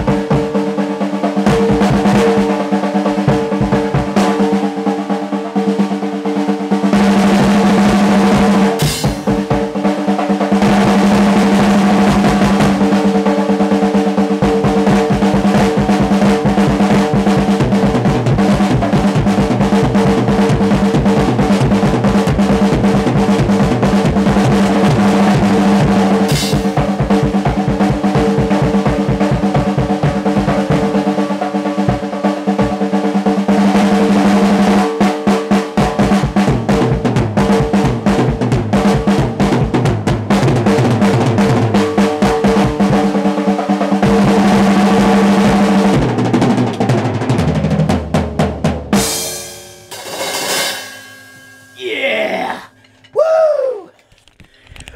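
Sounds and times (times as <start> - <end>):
drum kit rolls and fills: 0.0 - 53.9.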